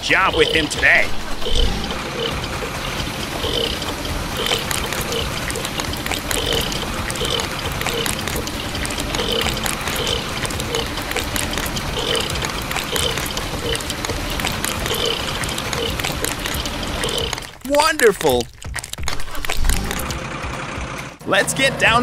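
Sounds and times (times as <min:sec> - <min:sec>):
wet concrete pouring: 0:01.4 - 0:20.1.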